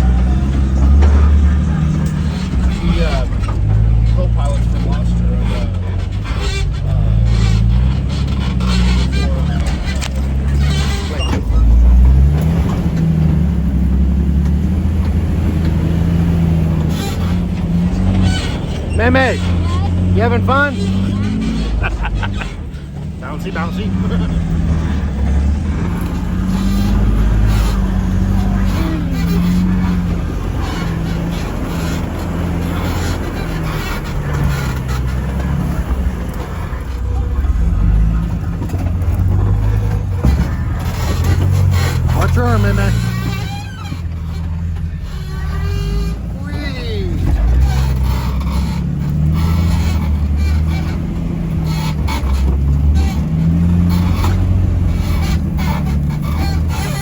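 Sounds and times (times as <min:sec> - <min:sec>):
vehicle engine heard from inside cab: 0:00.0 - 0:57.0.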